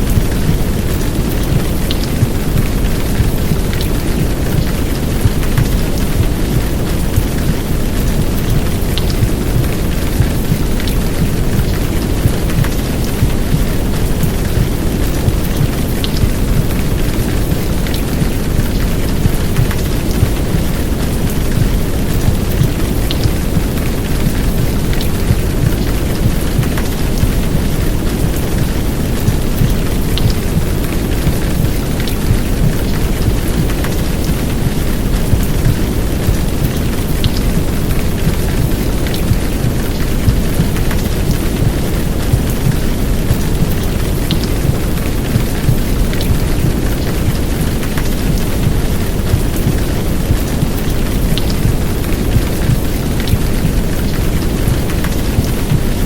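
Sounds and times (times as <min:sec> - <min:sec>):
heavy rain downpour: 0:00.0 - 0:56.0
raindrop ticks: 0:00.0 - 0:56.0.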